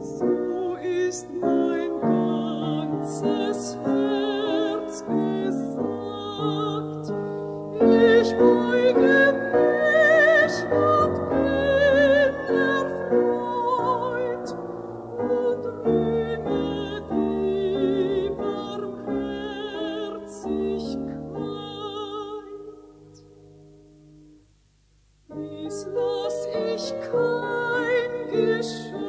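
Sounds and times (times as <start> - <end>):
classical music with vibrato melody: 0.0 - 29.0.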